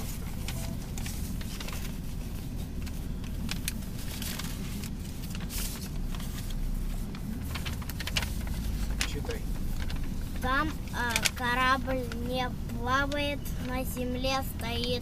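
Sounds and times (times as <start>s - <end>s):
paper sheets rustling and crackling: 0.0s - 15.0s.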